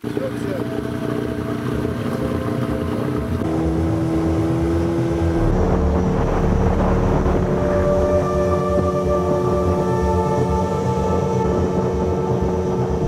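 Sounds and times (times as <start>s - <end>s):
outboard motor running: 0.0s - 13.0s
sustained tones: 0.6s - 13.0s.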